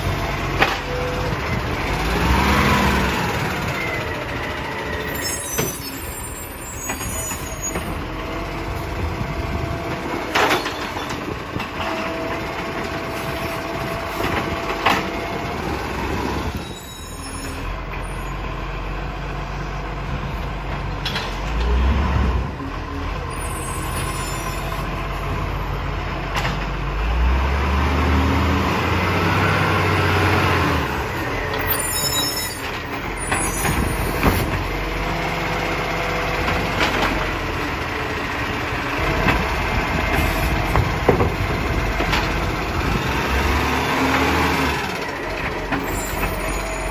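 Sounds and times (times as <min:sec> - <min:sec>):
garbage truck rumble: 0:00.0 - 0:46.9.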